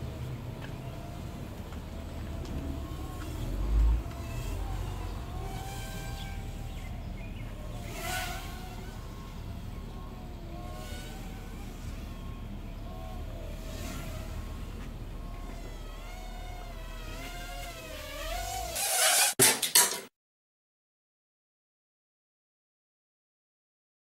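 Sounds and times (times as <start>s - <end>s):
quadcopter motors whining: 0.0s - 19.8s.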